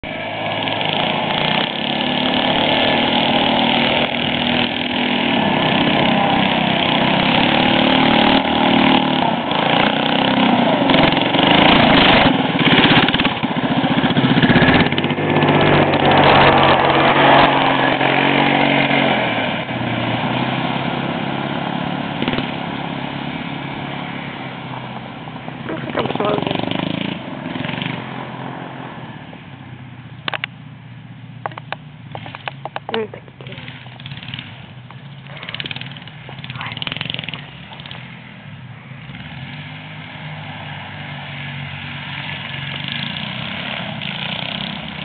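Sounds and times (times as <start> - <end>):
minibike engine revving: 0.0 - 30.6, 31.4 - 45.0.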